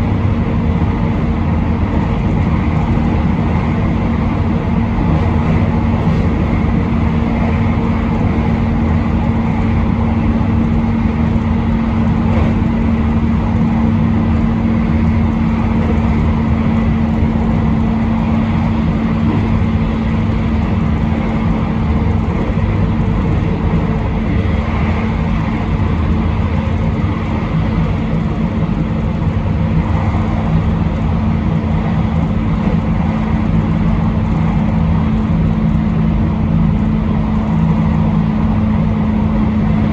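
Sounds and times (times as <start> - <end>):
steady low hum: 0.0 - 39.9
train wheels rumbling on rail: 0.0 - 39.9.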